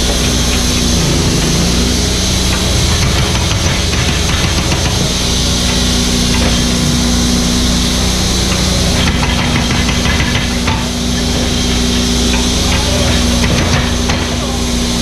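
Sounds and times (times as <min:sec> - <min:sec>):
diesel engine running: 0:00.0 - 0:15.0
machine knocks and clanks: 0:00.0 - 0:15.0.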